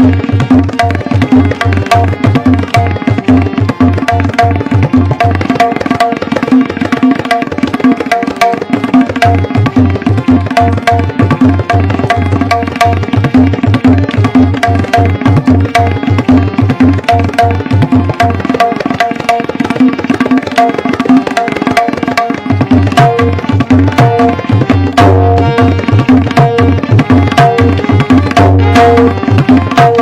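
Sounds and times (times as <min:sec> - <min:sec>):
harmonium melody: 0:00.0 - 0:30.0
tabla played fast: 0:00.0 - 0:30.0.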